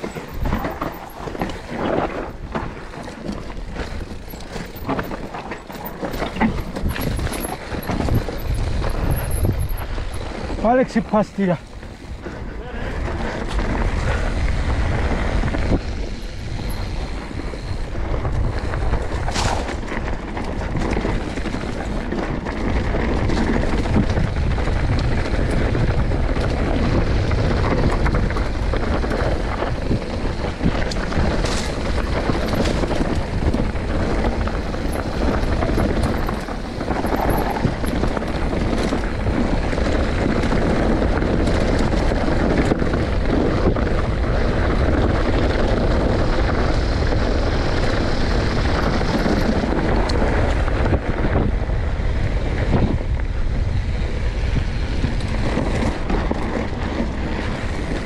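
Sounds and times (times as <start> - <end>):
mountain bike rolling on trail: 0.0 - 58.0
wind on microphone: 0.0 - 58.0.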